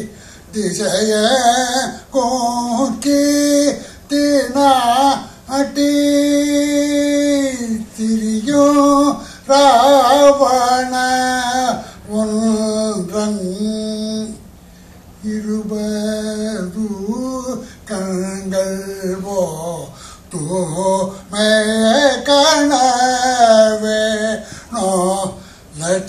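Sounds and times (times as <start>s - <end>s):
man singing: 0.0s - 14.5s, 15.2s - 26.0s.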